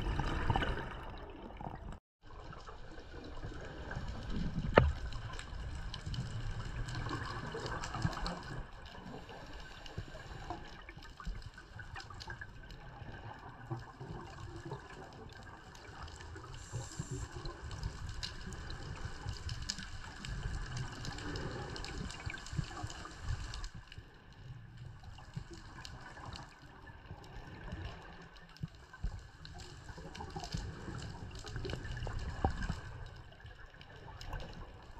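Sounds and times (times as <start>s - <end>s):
low rumble of water movement: 0.0s - 34.9s
underwater bubbling of exhaled air: 0.0s - 34.9s.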